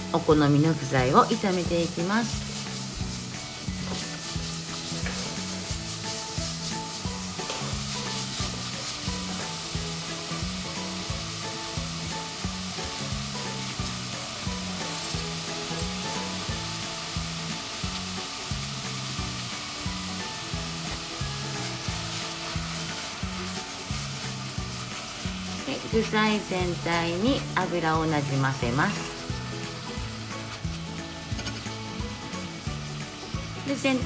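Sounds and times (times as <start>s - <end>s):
food sizzling in oil: 0.0s - 34.0s
spatula stirring and scraping: 0.8s - 33.9s.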